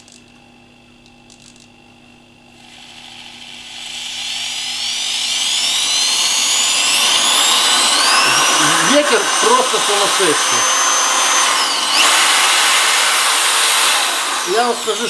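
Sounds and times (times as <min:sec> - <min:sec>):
motor cooling fan air rushing: 0:00.0 - 0:15.0
electric drill whining: 0:02.6 - 0:15.0.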